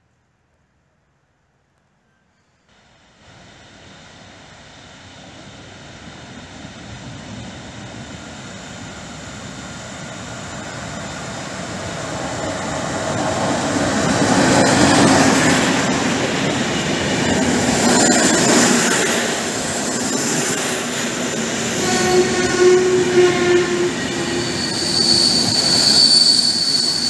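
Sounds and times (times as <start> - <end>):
electric train rumbling past: 2.3 - 27.0.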